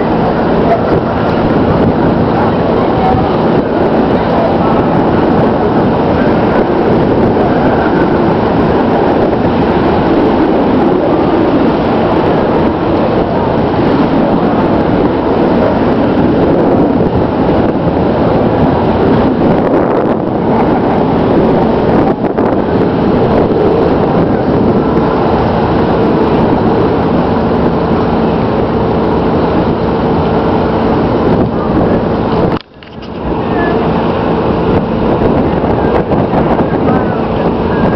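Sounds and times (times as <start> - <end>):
boat engine running: 0.0 - 37.9
loud rushing noise: 0.0 - 37.9.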